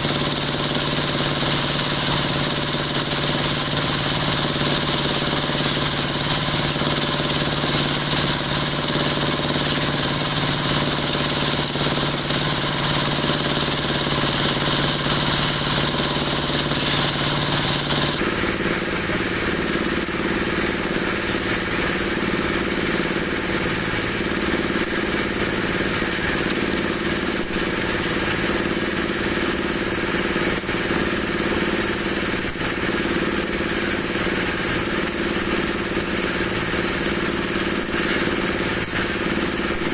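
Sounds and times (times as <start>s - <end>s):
machine humming and hissing: 0.0s - 39.9s.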